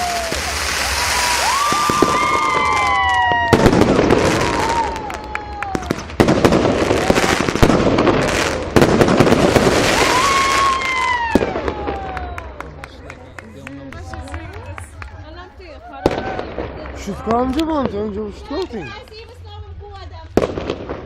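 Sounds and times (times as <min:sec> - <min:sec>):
firework crackling and popping: 0:00.0 - 0:21.0.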